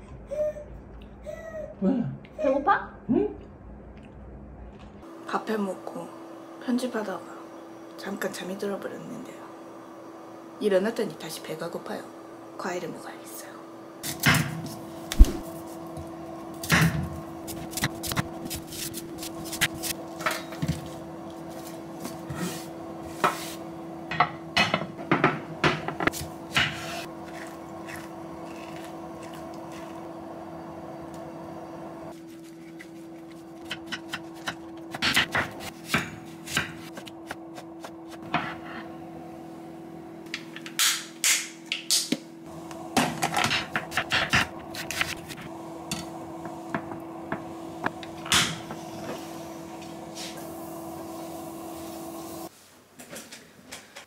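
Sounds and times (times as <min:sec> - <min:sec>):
steady hum: 0:04.4 - 0:52.5.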